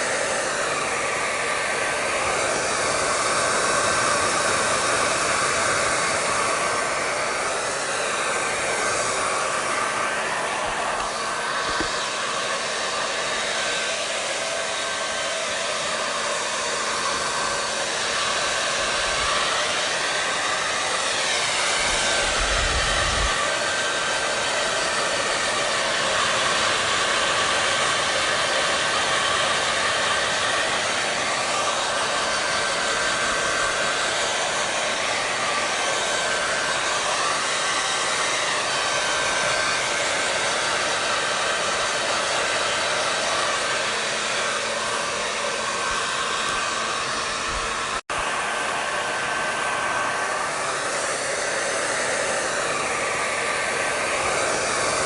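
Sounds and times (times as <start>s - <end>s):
hair dryer blowing air: 0.0s - 55.0s.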